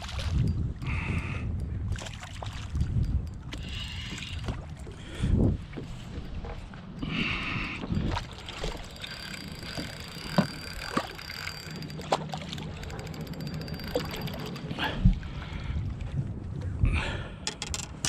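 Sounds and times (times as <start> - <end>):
knocks and clicks on boat: 0.0 - 15.2, 16.0 - 18.0.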